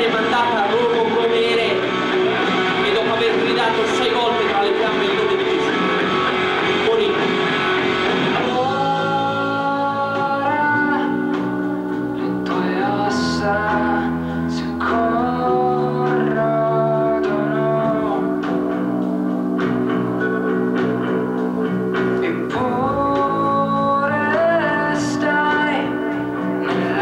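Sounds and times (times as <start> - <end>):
guitar chords: 0.0 - 27.0
person singing: 0.0 - 27.0.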